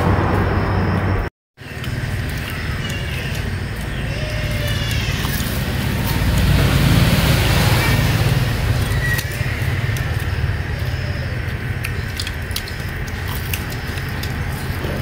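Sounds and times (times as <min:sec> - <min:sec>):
low hum: 0:00.0 - 0:15.0
food deep-frying in oil: 0:01.6 - 0:15.0.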